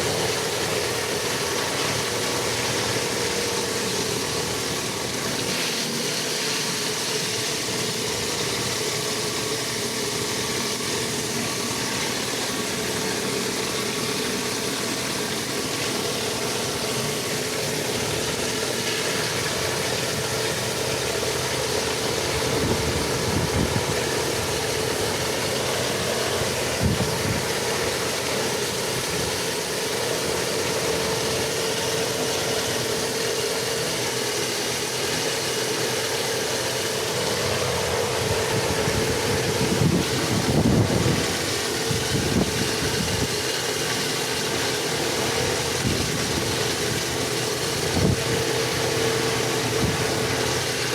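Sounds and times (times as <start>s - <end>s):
pressure washer engine hum: 0.0s - 50.9s.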